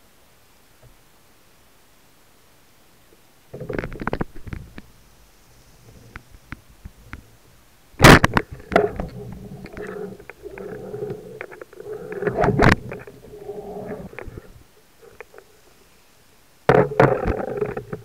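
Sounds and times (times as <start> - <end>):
low hum of speargun line: 3.2 - 18.0.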